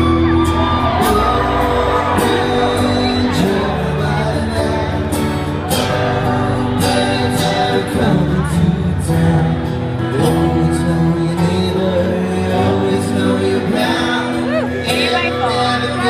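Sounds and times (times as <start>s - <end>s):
man singing: 0.0s - 16.0s
strummed acoustic guitar: 0.0s - 16.0s.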